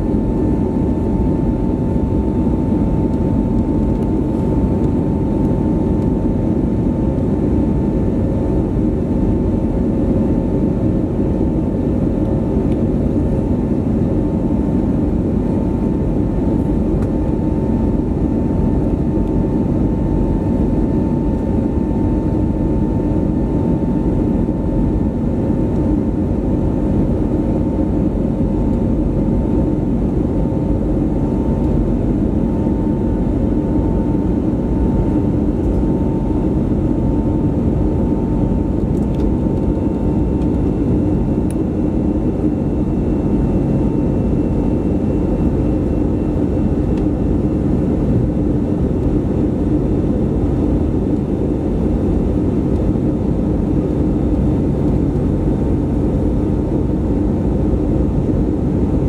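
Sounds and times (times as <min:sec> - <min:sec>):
high engine whine: 0:00.0 - 0:59.0
jet engine roar in cabin: 0:00.0 - 0:59.0.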